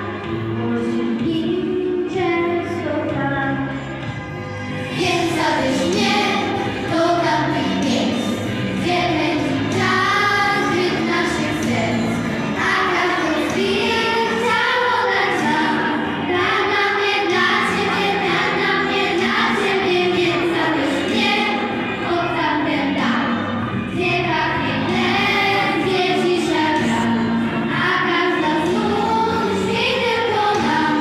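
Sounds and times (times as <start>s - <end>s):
girls choir singing: 4.8s - 31.0s.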